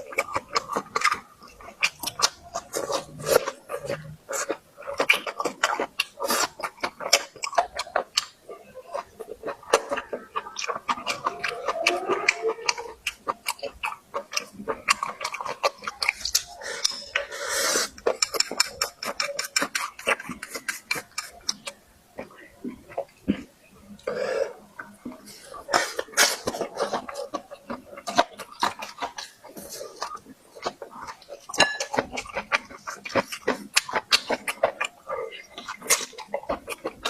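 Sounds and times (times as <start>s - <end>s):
chewing with lip smacks: 0.0s - 37.0s.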